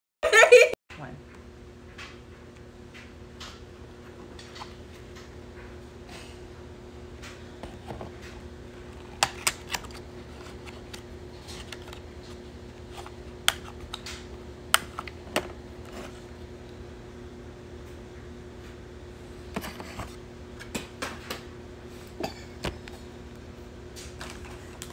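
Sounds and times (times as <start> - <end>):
low background hum: 0.2 - 24.9.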